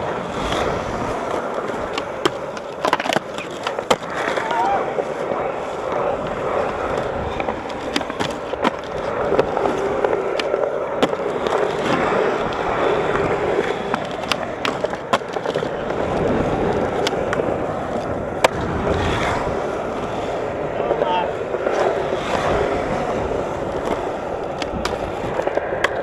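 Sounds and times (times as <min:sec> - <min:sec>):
skateboard clacking on concrete: 0:00.0 - 0:26.0
skateboard wheels rolling on concrete: 0:00.0 - 0:26.0.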